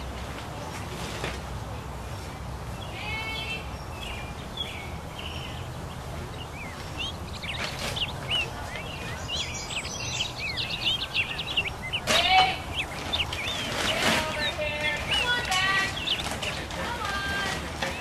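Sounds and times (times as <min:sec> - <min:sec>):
birds chirping: 0:00.0 - 0:00.9, 0:01.5 - 0:18.0
low background rumble: 0:02.7 - 0:18.0.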